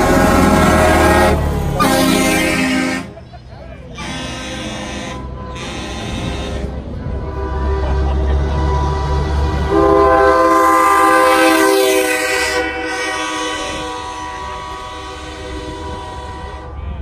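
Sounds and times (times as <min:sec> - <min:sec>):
truck air horn chord: 0:00.0 - 0:03.2, 0:04.0 - 0:16.8
low engine rumble: 0:00.0 - 0:17.0.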